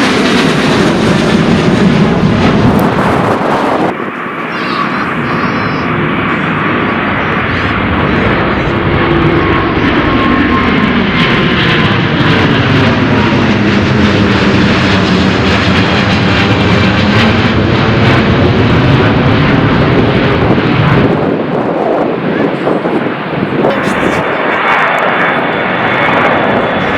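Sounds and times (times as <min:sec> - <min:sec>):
jet airliner engines overhead: 0:00.0 - 0:26.9.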